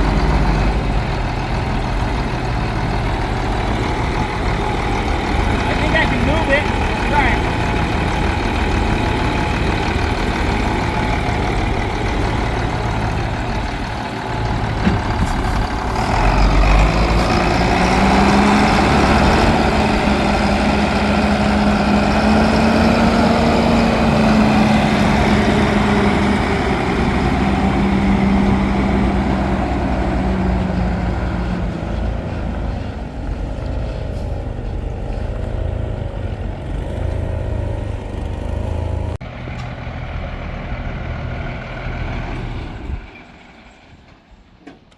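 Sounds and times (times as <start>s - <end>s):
heavy truck engine running: 0.0s - 44.9s.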